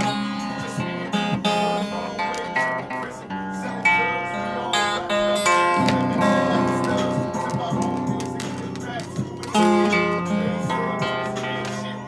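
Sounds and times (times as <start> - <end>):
acoustic guitar strummed and picked: 0.0 - 12.0.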